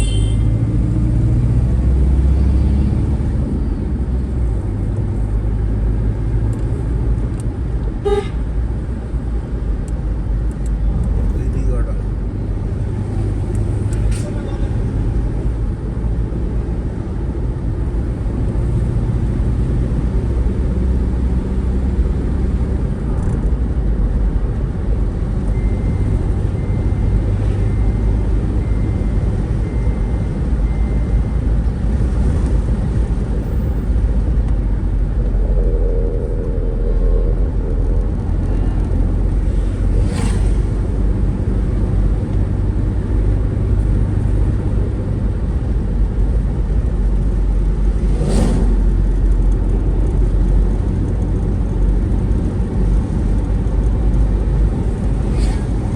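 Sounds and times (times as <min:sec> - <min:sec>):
vehicle engine and road noise: 0:00.0 - 0:55.9.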